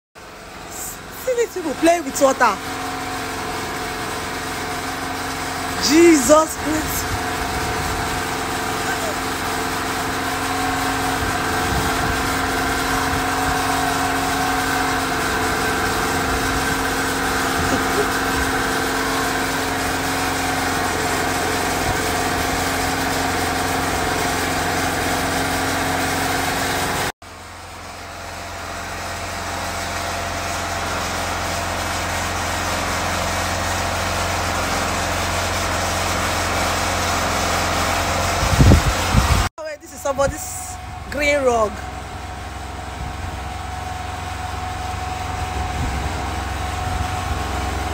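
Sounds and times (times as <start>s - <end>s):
generator engine running: 0.2s - 47.9s.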